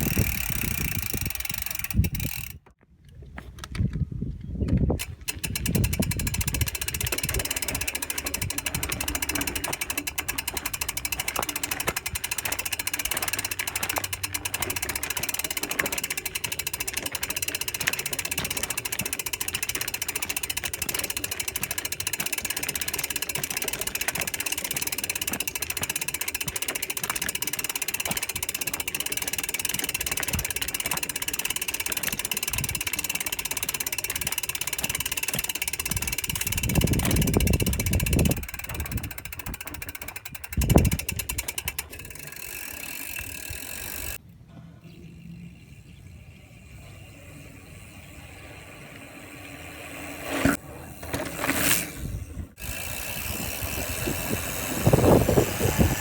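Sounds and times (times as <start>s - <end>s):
bicycle freehub buzzing clicks: 0.0s - 2.8s, 4.6s - 44.2s, 45.0s - 56.0s.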